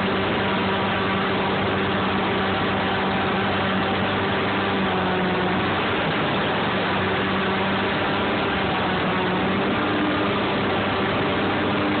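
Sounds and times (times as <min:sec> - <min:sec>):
airboat engine and propeller drone: 0:00.0 - 0:12.0.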